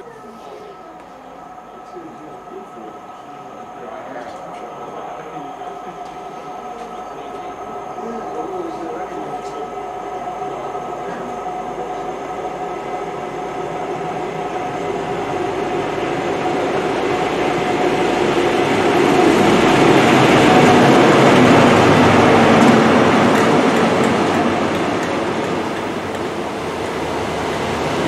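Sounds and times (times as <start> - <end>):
diesel train engine: 0.0 - 28.0
train wheels on rails: 0.0 - 28.0.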